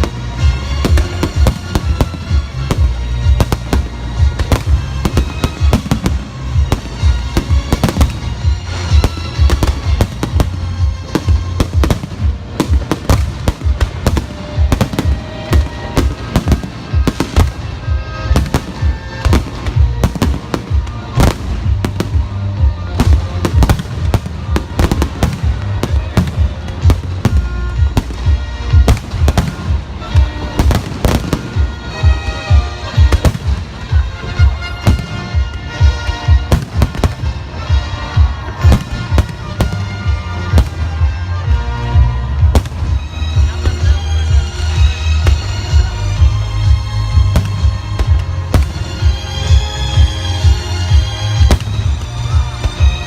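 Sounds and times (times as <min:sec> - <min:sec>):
fireworks bursts and bangs: 0:00.0 - 0:53.0
music playing: 0:00.0 - 0:53.0.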